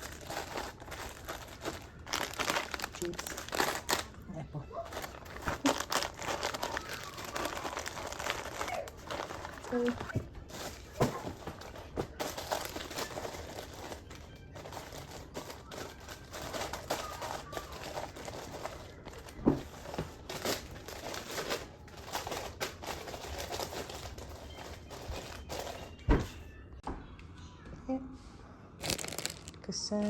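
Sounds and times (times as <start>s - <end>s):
plastic bags crinkling: 0.0s - 26.1s, 28.8s - 29.6s.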